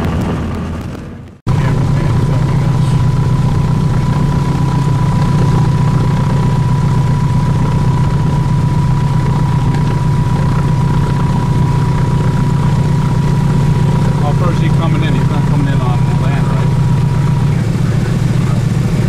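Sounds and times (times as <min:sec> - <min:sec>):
engine droning: 0:00.0 - 0:19.0
thin steady whine: 0:01.5 - 0:19.0.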